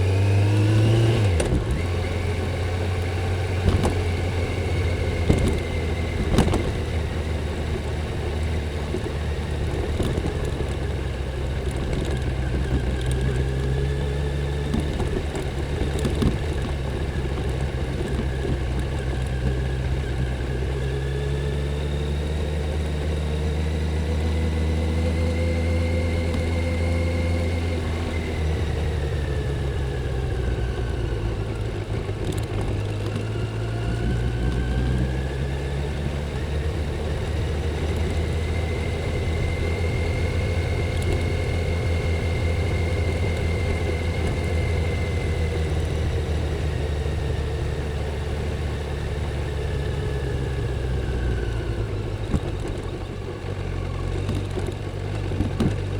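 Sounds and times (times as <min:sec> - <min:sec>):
motorcycle engine and exhaust running: 0:00.0 - 0:55.9.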